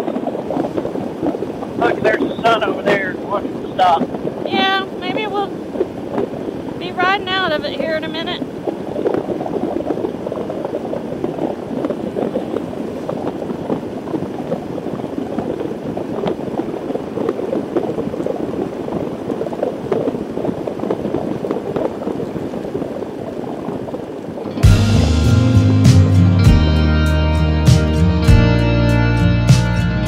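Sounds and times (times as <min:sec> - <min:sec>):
wind and road rush: 0:00.0 - 0:25.1.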